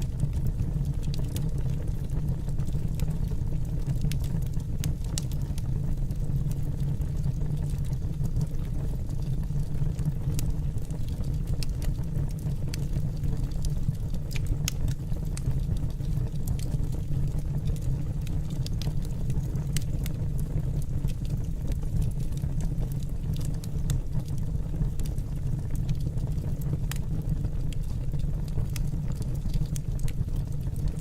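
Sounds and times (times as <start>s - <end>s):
fire crackling and popping: 0.0s - 31.0s
low rumble of flame: 0.0s - 31.0s.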